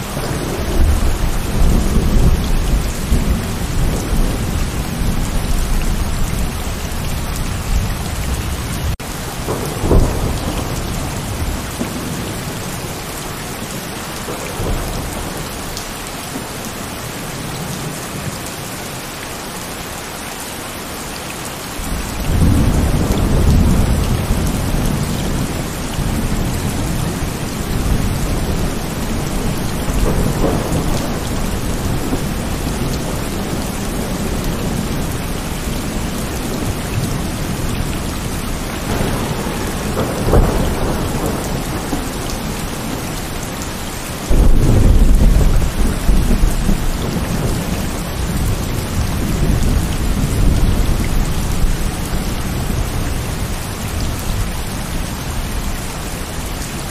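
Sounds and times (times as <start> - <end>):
thunder rumbling and cracking: 0.0 - 13.1, 21.8 - 56.9
heavy rain falling: 0.0 - 56.9.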